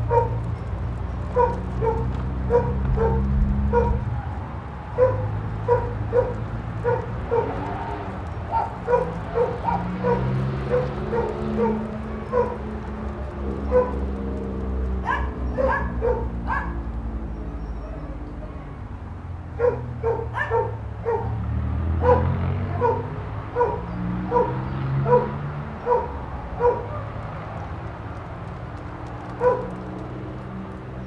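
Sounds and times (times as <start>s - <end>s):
dog barking: 0.0s - 0.4s, 1.3s - 14.2s, 14.9s - 18.8s, 19.5s - 27.2s, 29.3s - 29.9s.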